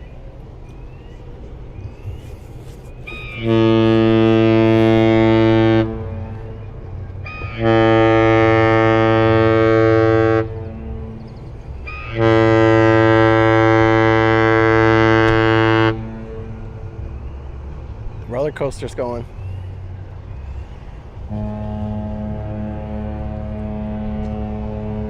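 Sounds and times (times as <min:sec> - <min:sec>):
deep ship horn blasts: 0:03.0 - 0:18.6, 0:19.2 - 0:25.0.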